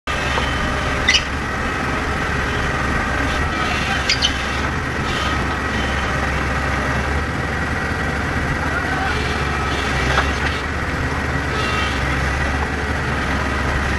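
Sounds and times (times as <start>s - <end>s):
excavator diesel engine running: 0.1s - 13.9s.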